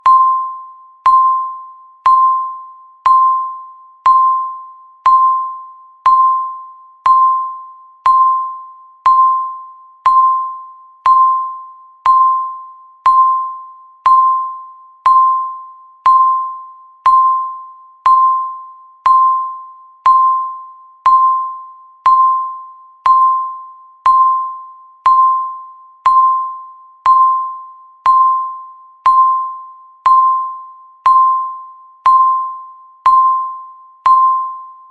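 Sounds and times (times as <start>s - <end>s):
electronic countdown beeps: 0.0s - 34.9s.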